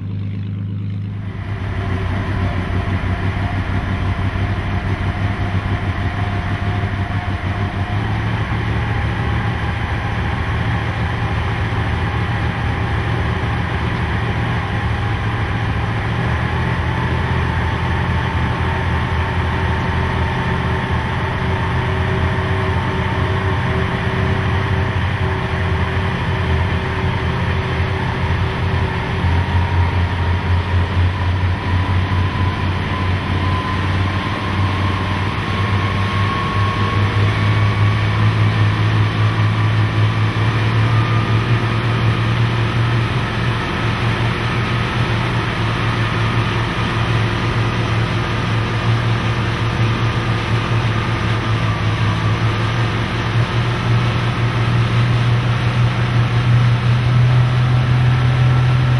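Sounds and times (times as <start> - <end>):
boat engine droning: 0.0 - 58.9
hull rushing through water: 1.2 - 58.9.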